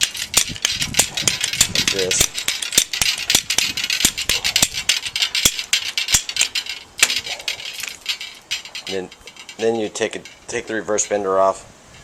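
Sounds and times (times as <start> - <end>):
tube bender metallic clicks: 0.0 - 11.2.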